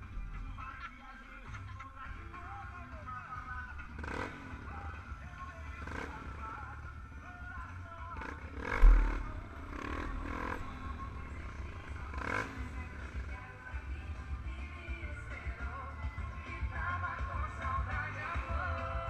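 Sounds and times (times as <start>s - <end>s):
background music: 0.0s - 19.0s
motorcycle engines rumbling: 0.0s - 19.0s.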